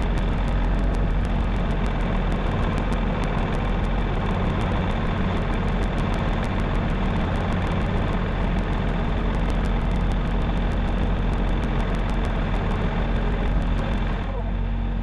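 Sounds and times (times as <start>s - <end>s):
faint irregular ticks: 0.0s - 14.4s
vehicle engine rumbling: 0.0s - 15.0s.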